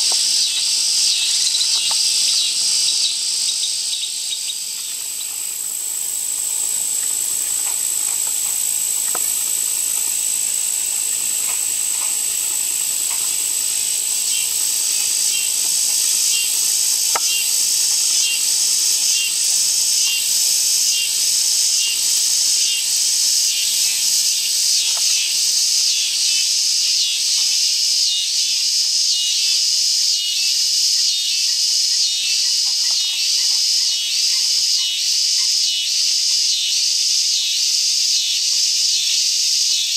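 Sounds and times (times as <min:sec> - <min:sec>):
crickets trilling: 0:00.0 - 0:39.9
pulsing insect rhythm: 0:00.0 - 0:39.9.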